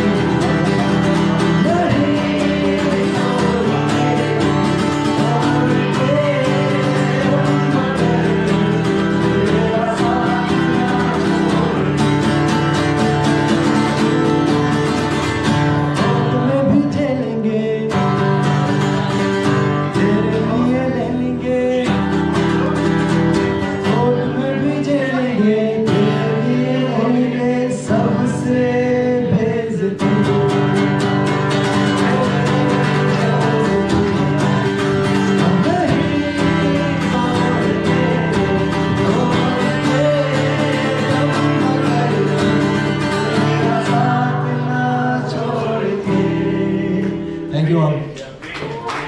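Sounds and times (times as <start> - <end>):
person singing: 0.0 - 47.6
guitar chords: 0.0 - 48.2.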